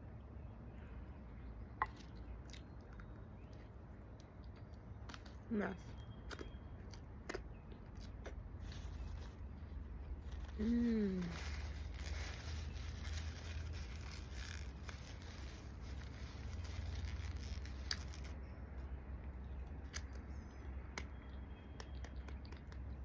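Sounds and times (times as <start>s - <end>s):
steady low hum: 0.0s - 23.0s
soft chewing: 1.8s - 23.0s.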